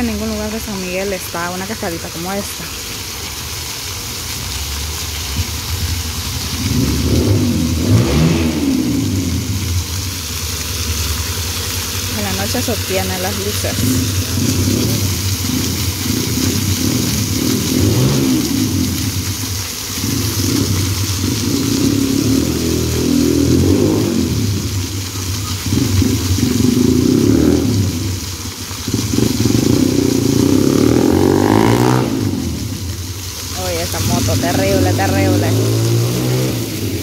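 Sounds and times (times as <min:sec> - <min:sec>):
fountain water splashing: 0:00.0 - 0:37.0
motorcycle engine revving: 0:06.4 - 0:37.0.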